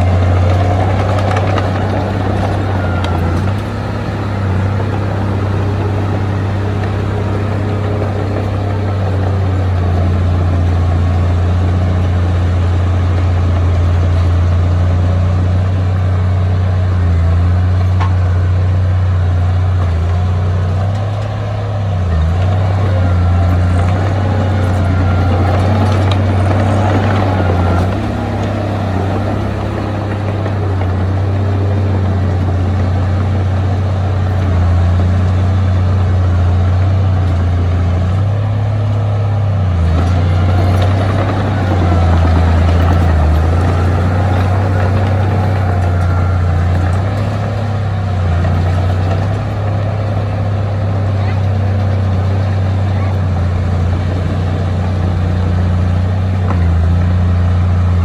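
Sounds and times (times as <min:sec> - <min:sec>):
rough grinding noise: 0:00.0 - 0:16.4, 0:22.1 - 0:39.2, 0:39.8 - 0:58.0
heavy diesel engine droning: 0:00.0 - 0:58.0.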